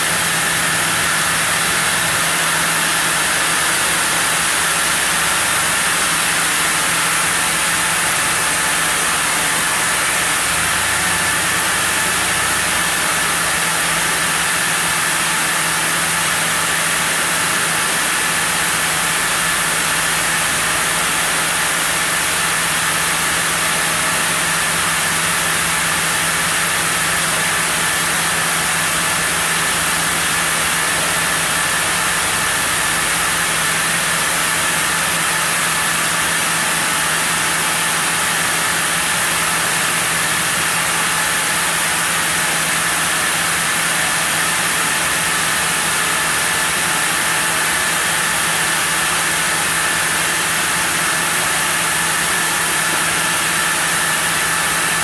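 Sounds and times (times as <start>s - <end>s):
sawmill saw milling wood: 0.0s - 55.0s.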